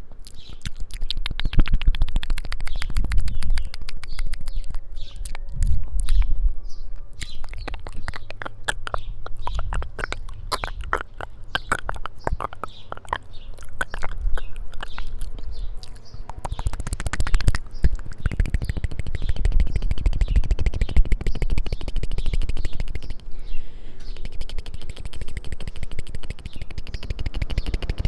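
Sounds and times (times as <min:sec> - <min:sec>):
wet lip smacks and tongue clicks: 0:00.0 - 0:06.4, 0:07.1 - 0:23.3, 0:24.0 - 0:28.0
birds chirping: 0:00.0 - 0:28.0.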